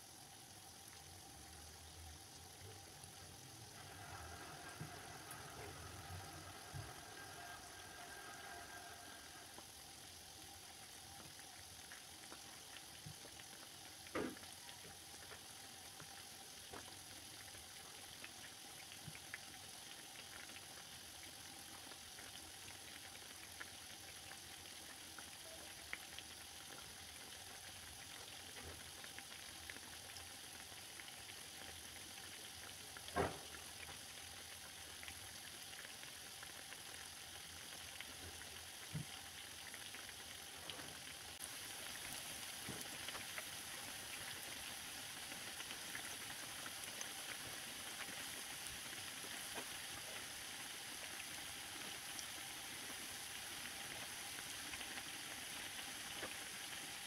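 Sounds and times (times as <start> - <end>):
dough sizzling in hot oil: 0.0 - 57.0.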